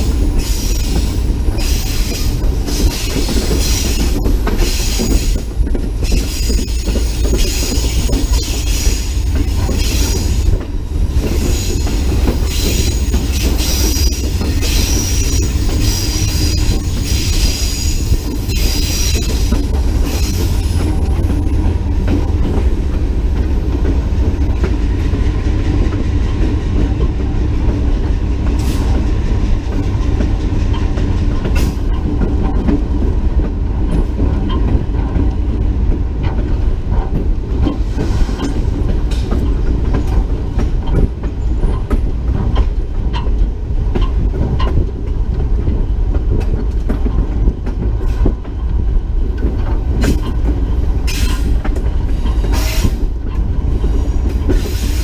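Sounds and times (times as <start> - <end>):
diesel locomotive engine drone: 0.0 - 55.0
wheels clicking over rail joints: 0.0 - 55.0.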